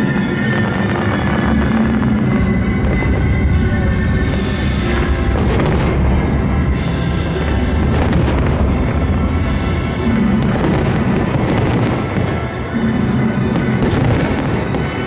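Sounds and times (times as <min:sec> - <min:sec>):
fireworks booming and crackling: 0:00.0 - 0:15.0
loud music: 0:00.0 - 0:15.0.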